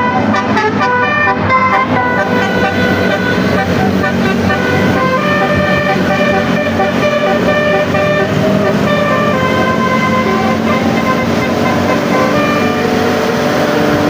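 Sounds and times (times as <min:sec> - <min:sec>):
multi-tone bus horn tune: 0:00.0 - 0:14.0.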